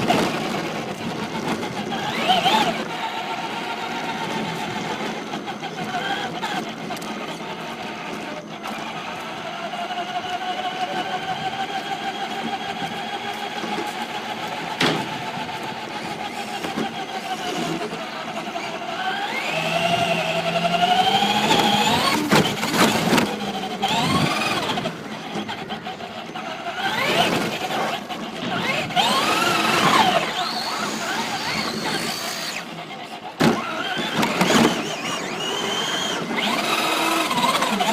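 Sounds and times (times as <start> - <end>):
electric motor whine: 0.6 - 37.9.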